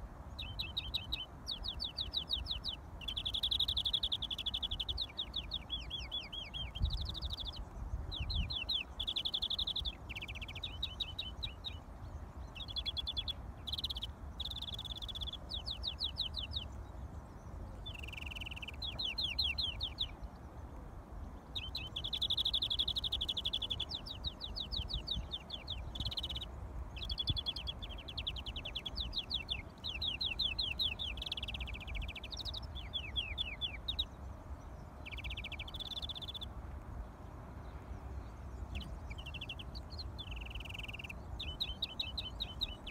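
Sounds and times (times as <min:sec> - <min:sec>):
finch singing trills and buzzes: 0:00.0 - 0:20.5, 0:21.2 - 0:36.6, 0:37.6 - 0:42.9
wind rumble on microphone: 0:00.0 - 0:42.9.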